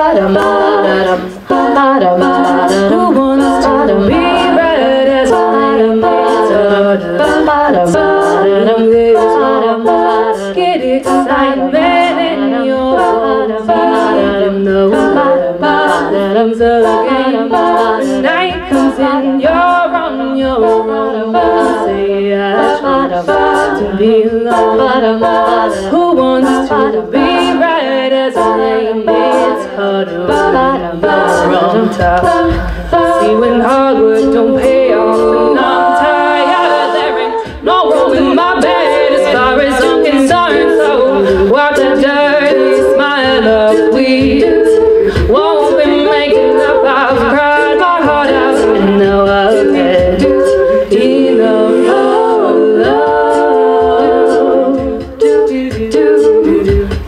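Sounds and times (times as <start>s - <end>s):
steady beat: 0.0s - 57.0s
women singing a cappella harmonies: 0.0s - 57.0s.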